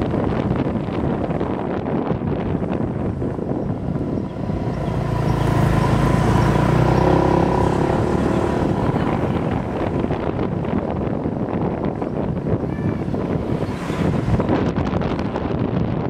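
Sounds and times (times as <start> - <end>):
scooter engine hum: 0.0 - 16.0
wind buffeting microphone: 0.0 - 16.0.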